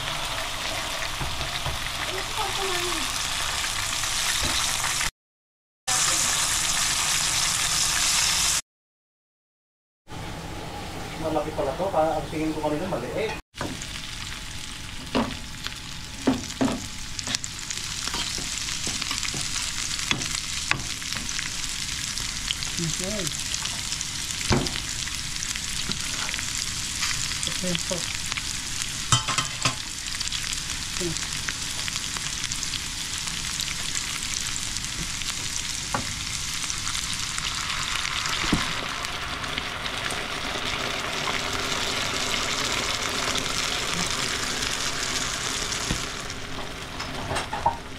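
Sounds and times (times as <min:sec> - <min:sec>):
vegetables sizzling in a pan: 0:00.0 - 0:05.1, 0:05.9 - 0:08.6, 0:13.6 - 0:47.9.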